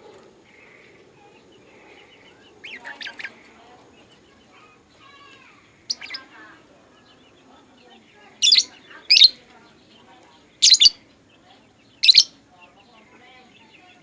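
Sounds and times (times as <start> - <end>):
lovebirds chirping: 0.0 - 14.0
soft bird twittering: 0.0 - 14.0.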